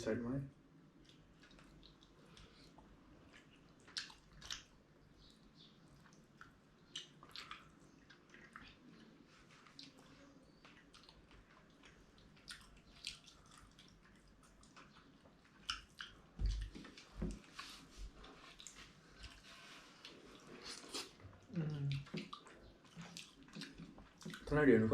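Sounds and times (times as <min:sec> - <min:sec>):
wet eating sounds: 0:00.8 - 0:24.8.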